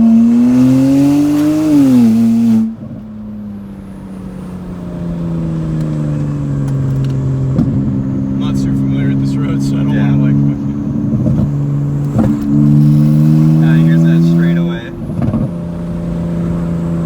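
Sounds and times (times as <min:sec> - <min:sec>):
engine drone: 0:00.0 - 0:17.0
loud car exhaust revving: 0:00.0 - 0:17.0.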